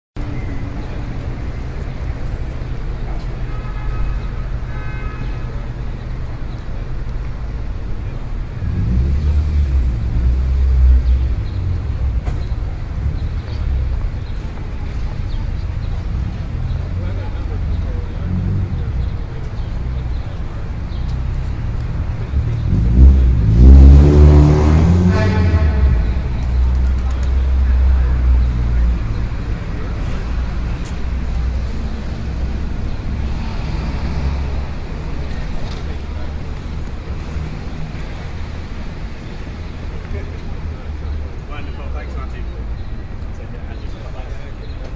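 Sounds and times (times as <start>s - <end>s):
low rumble of road traffic: 0.2s - 44.9s
heavy vehicle engine drone: 5.6s - 42.4s.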